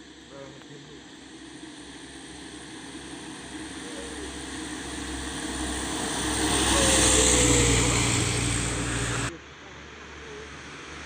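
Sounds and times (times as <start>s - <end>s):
truck engine: 0.0s - 11.0s.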